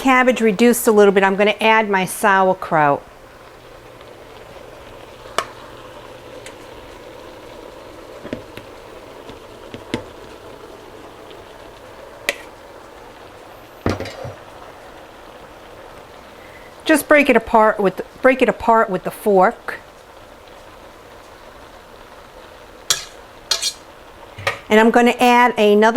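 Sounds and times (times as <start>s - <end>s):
cabbage sizzling in a pot: 0.0s - 25.9s.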